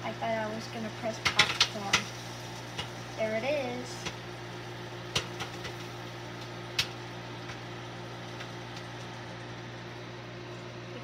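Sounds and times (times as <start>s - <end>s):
popcorn popping: 0.0s - 10.1s
microwave oven humming: 0.0s - 11.0s.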